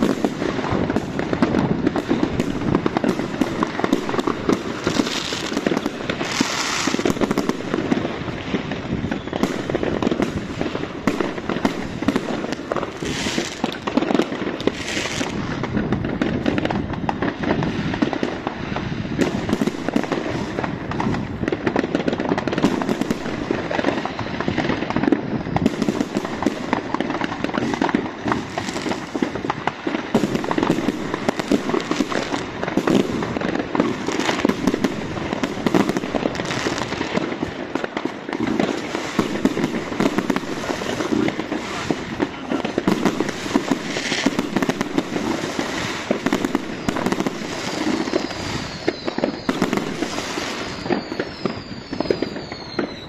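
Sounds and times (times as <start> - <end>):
fireworks barrage: 0.0 - 53.0.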